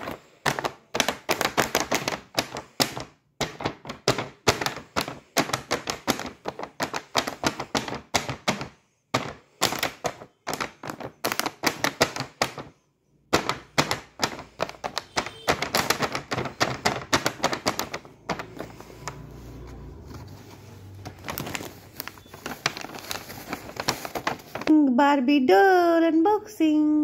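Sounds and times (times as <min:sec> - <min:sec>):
plastic window crackling and clicking: 0:00.0 - 0:12.7, 0:13.3 - 0:24.7.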